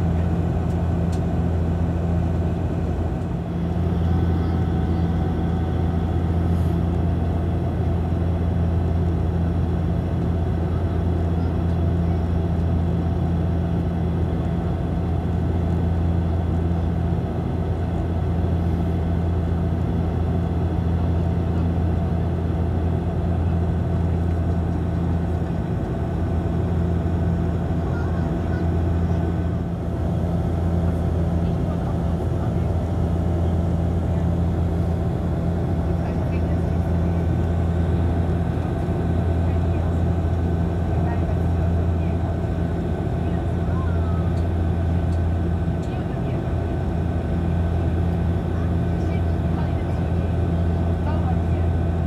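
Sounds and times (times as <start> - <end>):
propeller engine drone: 0.0 - 52.0.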